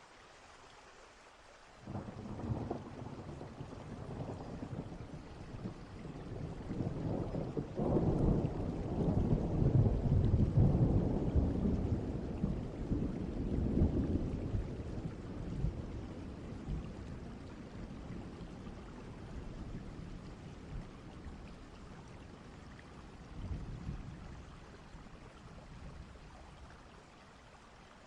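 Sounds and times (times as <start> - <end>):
steady rain: 0.0 - 28.0
distant thunder rumbling: 1.9 - 26.2.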